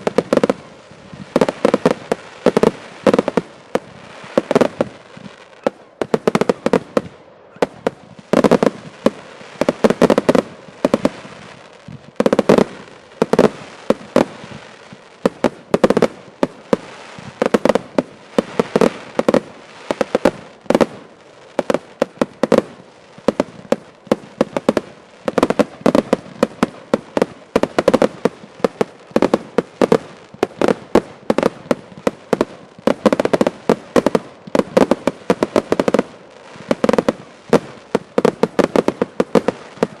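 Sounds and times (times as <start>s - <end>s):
fireworks bursting: 0.0s - 40.0s.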